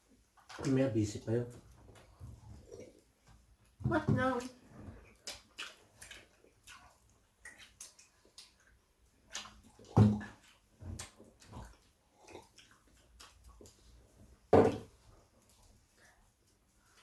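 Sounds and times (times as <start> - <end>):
people chewing food: 0.0 - 17.0.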